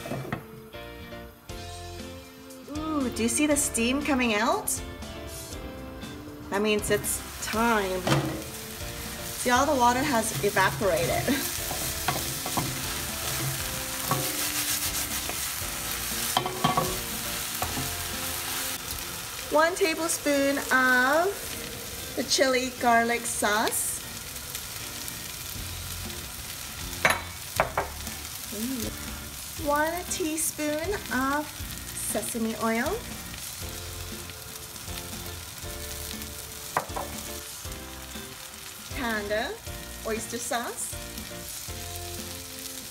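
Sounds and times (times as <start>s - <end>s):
eggplant sizzling in frying pan: 0.0s - 42.9s.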